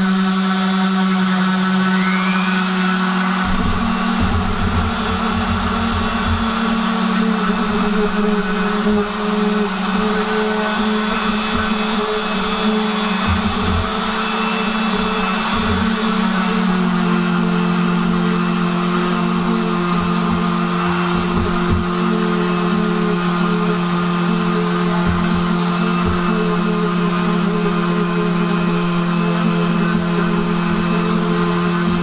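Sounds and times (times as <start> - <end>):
orbital sander motor hum: 0.0 - 32.0
second sander rough rumble: 0.0 - 32.0.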